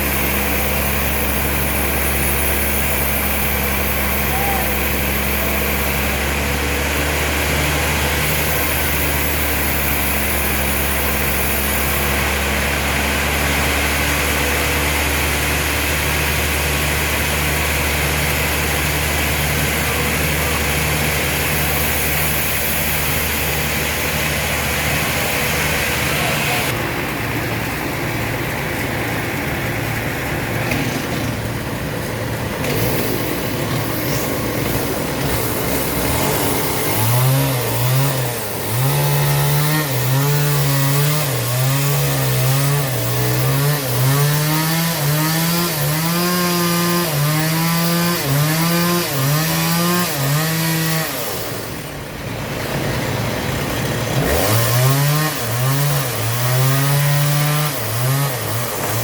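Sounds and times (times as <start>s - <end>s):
engine saw cutting log: 0.0s - 59.0s.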